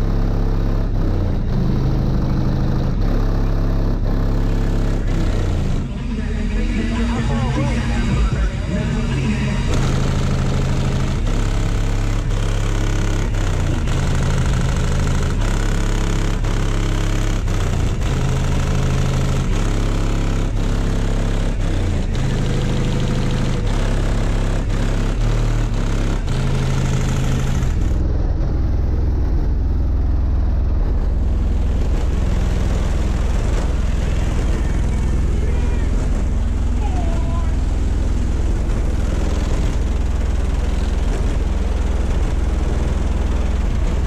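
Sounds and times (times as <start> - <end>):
loud bass-heavy music: 0.0 - 44.0.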